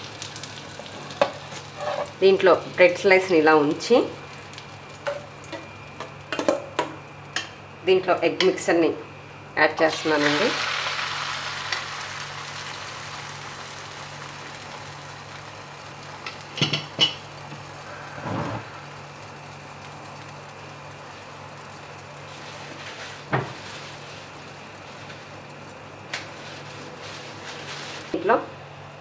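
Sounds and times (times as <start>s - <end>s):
faint sizzle in frying pan: 0.0s - 8.0s, 9.2s - 28.2s
steady low hum: 0.0s - 29.0s.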